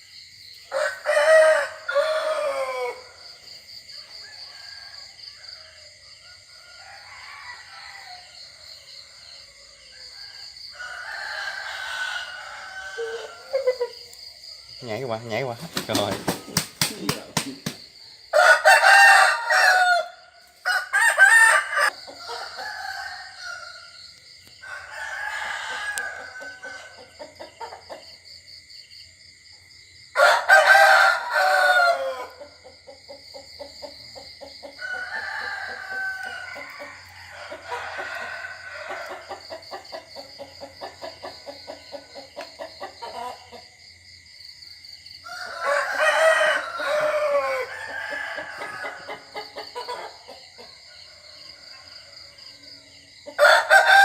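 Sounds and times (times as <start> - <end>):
roosters crowing: 0.6 - 14.1, 15.1 - 28.2, 30.1 - 43.7, 45.2 - 54.0.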